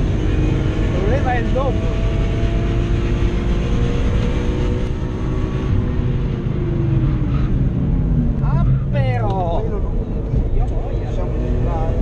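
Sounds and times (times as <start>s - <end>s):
car engine revving hard: 0.0s - 7.6s, 9.8s - 12.0s.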